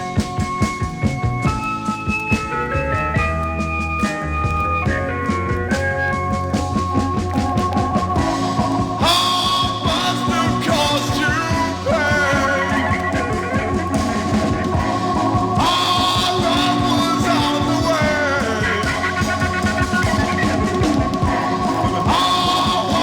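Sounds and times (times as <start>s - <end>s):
instrumental rock music: 0.0s - 23.0s.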